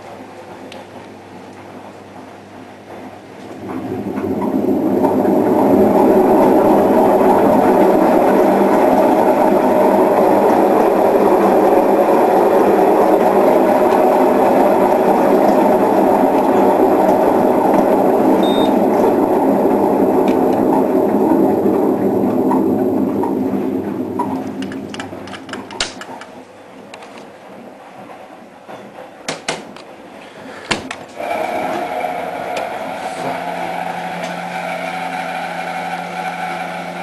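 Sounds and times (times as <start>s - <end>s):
washing machine drum rumbling: 0.0s - 30.2s, 30.8s - 37.0s.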